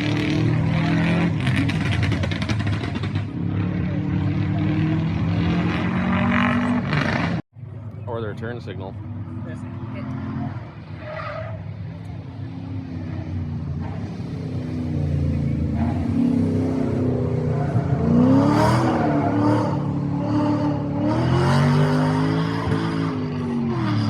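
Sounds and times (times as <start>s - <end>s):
rally car engine revving: 0.0s - 7.4s, 9.0s - 24.0s.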